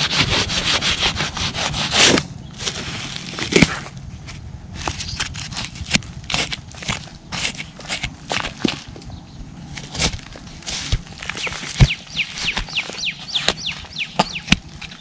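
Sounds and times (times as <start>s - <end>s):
sharp scrapes: 0.0s - 8.5s, 9.6s - 15.0s
hand brushing dry soil: 0.0s - 8.9s, 9.6s - 15.0s.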